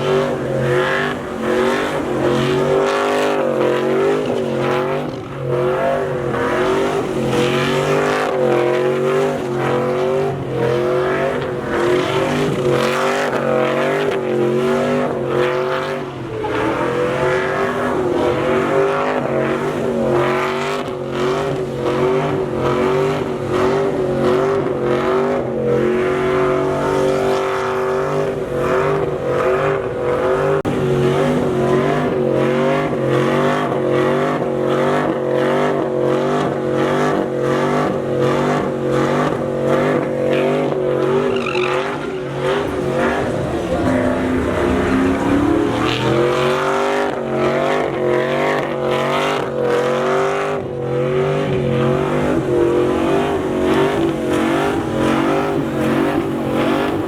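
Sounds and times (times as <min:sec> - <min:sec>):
tire squeal: 0:00.0 - 0:57.0
truck engine revving: 0:00.0 - 0:57.0.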